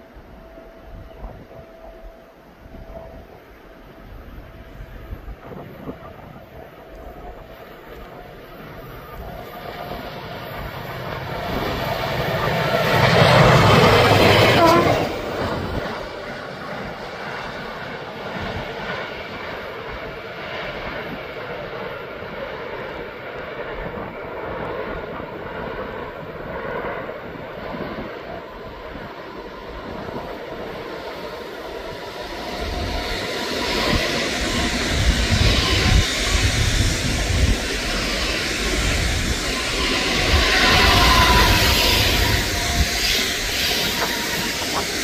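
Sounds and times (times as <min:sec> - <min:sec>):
high-speed train passing: 0:00.0 - 0:45.0.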